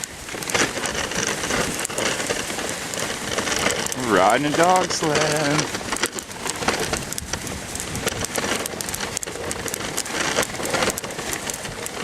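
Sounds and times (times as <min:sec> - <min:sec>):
sled runners sliding over snow: 0:00.0 - 0:12.0
dog paws pattering: 0:00.3 - 0:12.0.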